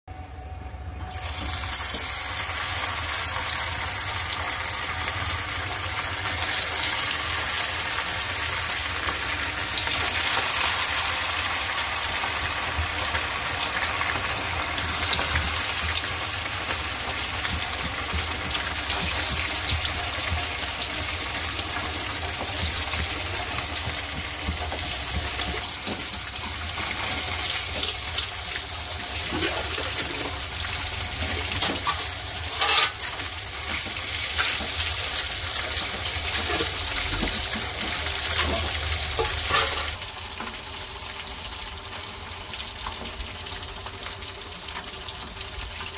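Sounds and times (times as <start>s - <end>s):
fish sizzling in hot oil: 1.1s - 45.9s.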